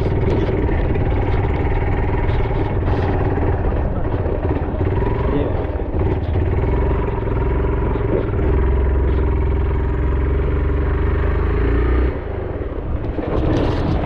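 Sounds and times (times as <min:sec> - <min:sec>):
motorcycle engine rumbling: 0:00.0 - 0:14.0
road noise: 0:00.0 - 0:14.0.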